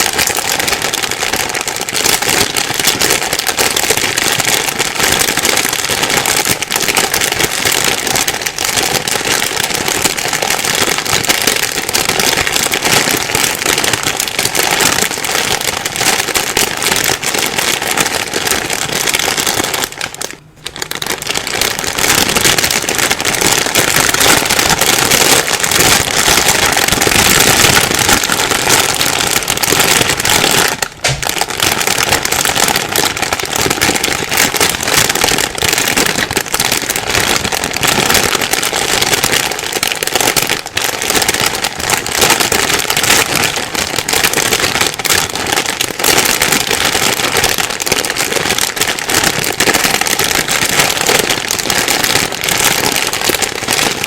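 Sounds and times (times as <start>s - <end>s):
plastic bag crinkling: 0.0s - 54.0s.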